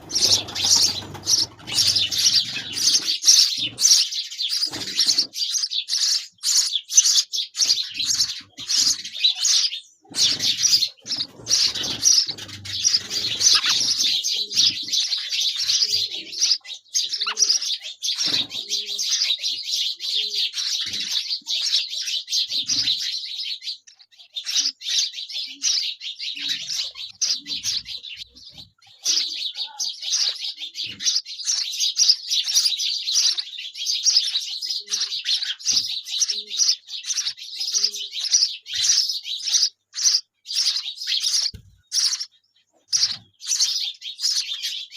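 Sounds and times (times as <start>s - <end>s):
nestlings chirping: 0.0s - 44.9s.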